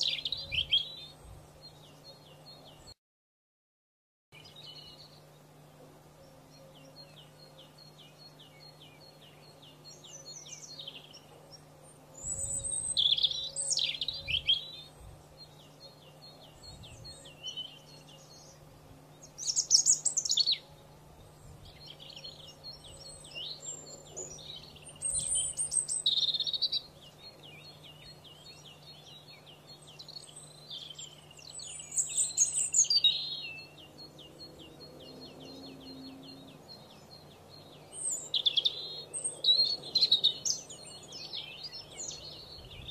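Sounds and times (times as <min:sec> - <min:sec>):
canary singing: 0:00.0 - 0:02.8, 0:06.2 - 0:42.9
faint low hum: 0:00.0 - 0:03.0, 0:04.4 - 0:42.9.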